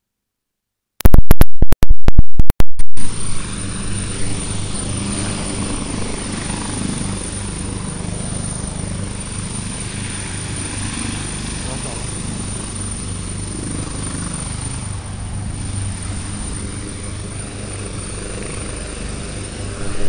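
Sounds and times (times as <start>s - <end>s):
helicopter hovering: 3.0s - 20.0s.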